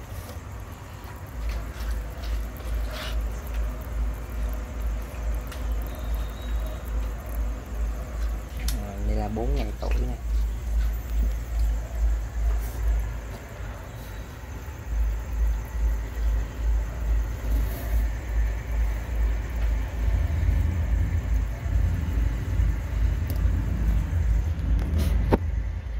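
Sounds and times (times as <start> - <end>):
pulsing low mechanical rumble: 0.0 - 25.9.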